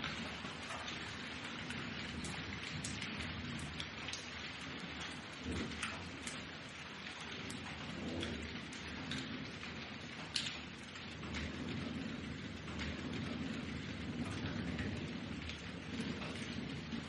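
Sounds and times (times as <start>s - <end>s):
rain with drops ticking: 0.0s - 17.0s
thunder rumbling: 0.0s - 17.0s.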